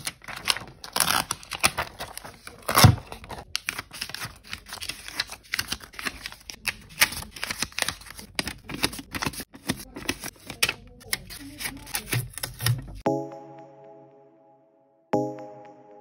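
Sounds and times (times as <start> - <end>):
paper crumpling and crinkling: 0.0 - 13.0.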